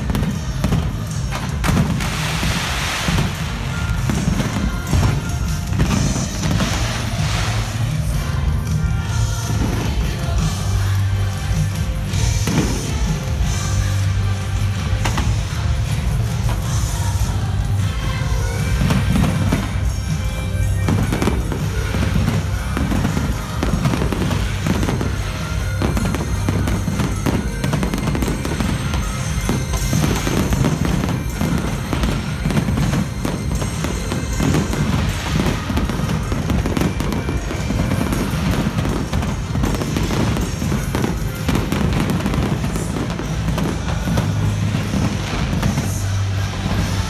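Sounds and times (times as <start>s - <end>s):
fireworks exploding in volleys: 0.0s - 47.0s
music playing: 0.0s - 47.0s.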